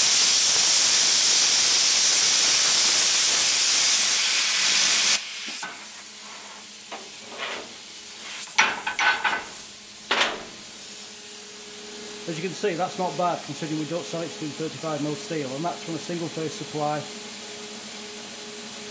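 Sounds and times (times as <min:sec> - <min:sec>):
plasma cutter hissing: 0:00.0 - 0:17.2.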